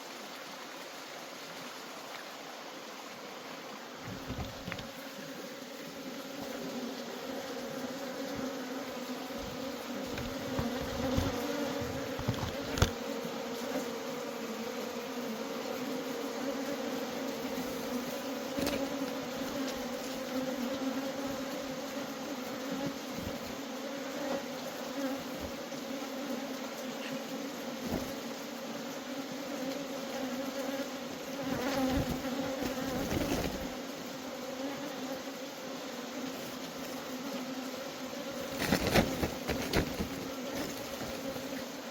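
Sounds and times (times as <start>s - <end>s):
honeybees buzzing: 1.4s - 41.9s.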